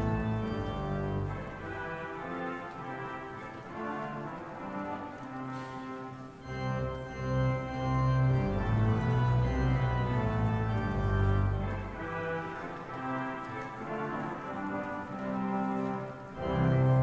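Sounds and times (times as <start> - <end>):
organ playing a hymn: 0.0 - 17.0.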